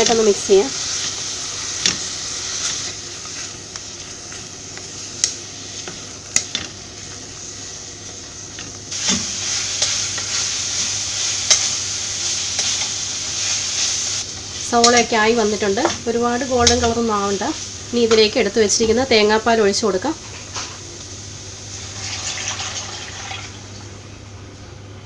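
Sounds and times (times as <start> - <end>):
vegetables sizzling in a pot: 0.0 - 24.7.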